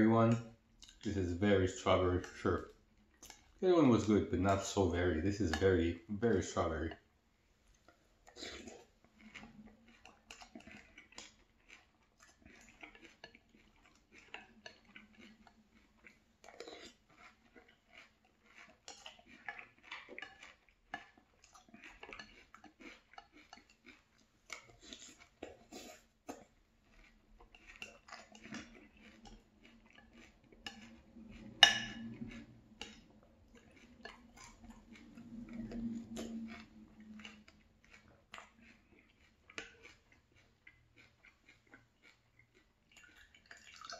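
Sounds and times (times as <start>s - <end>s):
chewing cereal: 0.2s - 43.9s.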